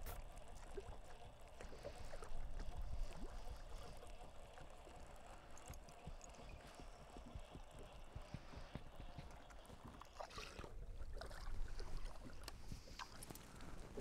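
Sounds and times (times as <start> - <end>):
waves lapping against hull: 0.0 - 14.0.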